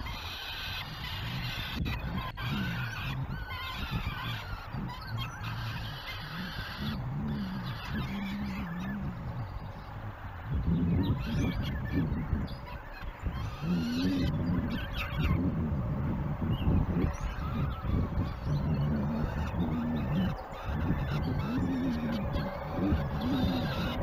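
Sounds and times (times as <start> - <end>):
falcon chicks calling: 0.0 - 24.0.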